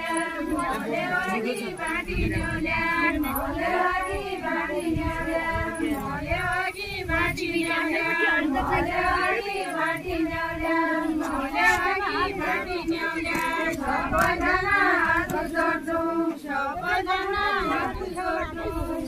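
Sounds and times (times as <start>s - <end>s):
women singing in chorus: 0.0s - 19.0s.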